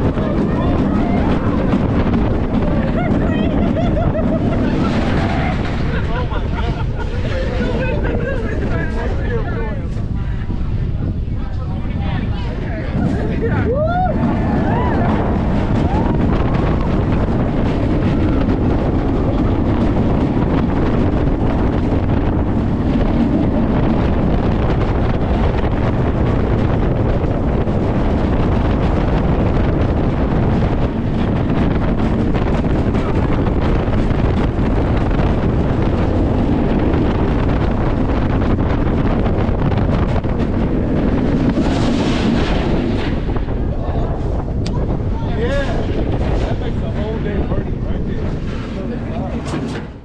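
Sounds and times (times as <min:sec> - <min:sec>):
roller coaster rumbling on track: 0:00.0 - 0:50.0
wind buffeting microphone: 0:00.0 - 0:50.0.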